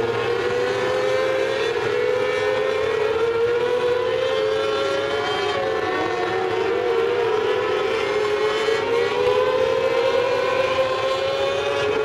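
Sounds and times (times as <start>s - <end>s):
race car engines whining: 0.0s - 12.0s.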